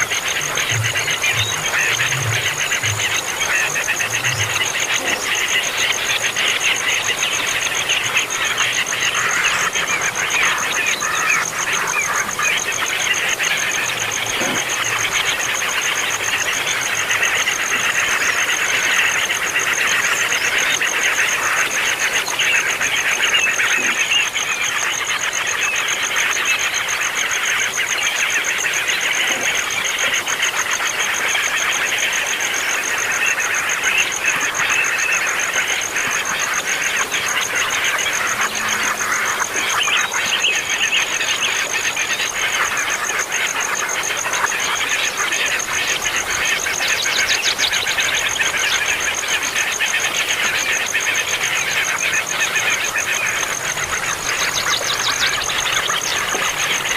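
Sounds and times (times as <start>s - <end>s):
insect trill: 0.0s - 56.9s.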